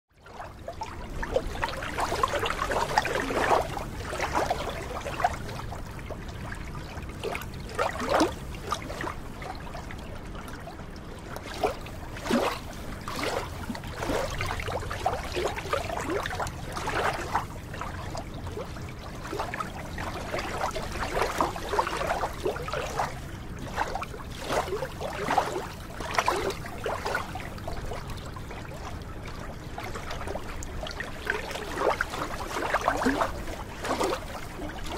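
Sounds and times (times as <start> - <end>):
small waves lapping: 0.2 - 34.9.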